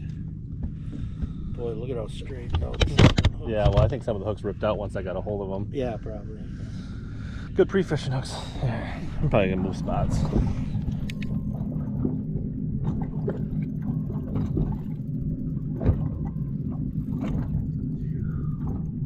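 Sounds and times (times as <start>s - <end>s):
outboard motor humming: 0.0s - 19.0s.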